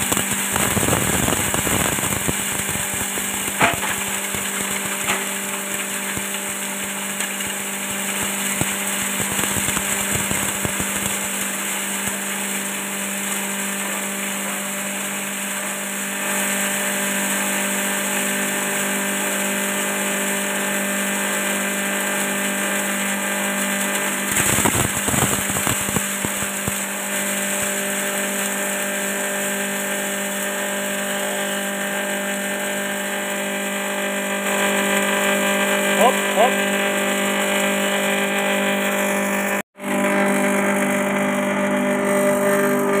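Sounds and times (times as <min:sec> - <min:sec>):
blades chopping plant material: 0:00.0 - 0:43.0
electric chopper motor whirring: 0:00.0 - 0:43.0.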